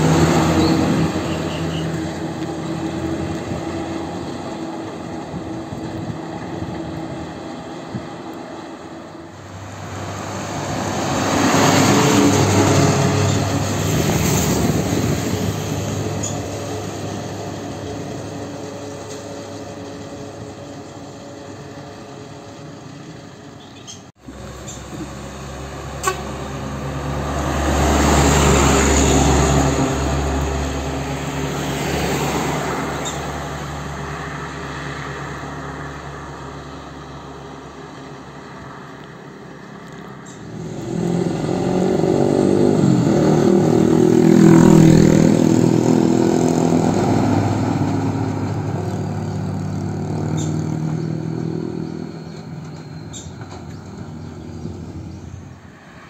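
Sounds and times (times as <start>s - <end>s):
diesel trucks driving past: 0.0s - 56.0s.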